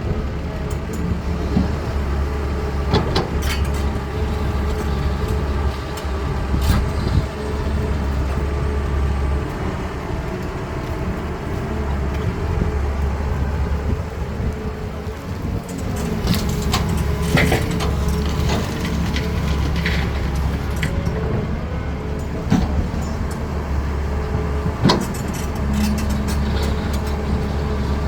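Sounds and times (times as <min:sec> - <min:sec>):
excavator diesel engine drone: 0:00.0 - 0:28.0.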